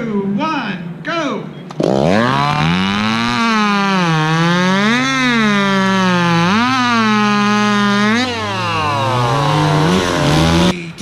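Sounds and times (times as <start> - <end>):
chainsaw cutting through log: 1.7 - 10.8.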